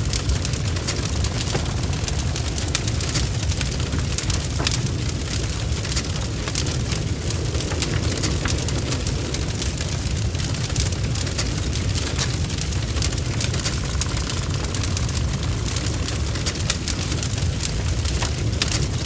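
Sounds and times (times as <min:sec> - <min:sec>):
fire blazing and crackling: 0:00.0 - 0:19.0.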